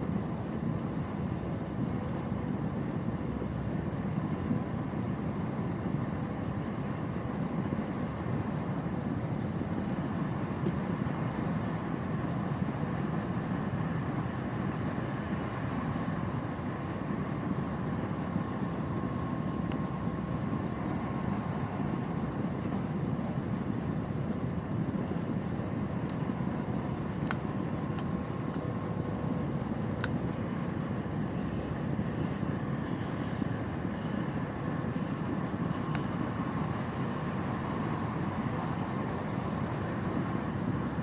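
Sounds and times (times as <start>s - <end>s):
faint steady hum: 0.0s - 41.0s
train coach rolling rumble: 0.0s - 41.0s.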